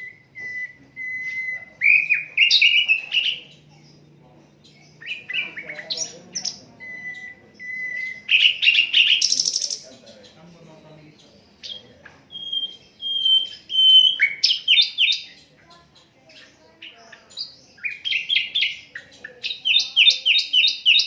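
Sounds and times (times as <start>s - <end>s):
flycatcher singing: 0.0s - 21.0s.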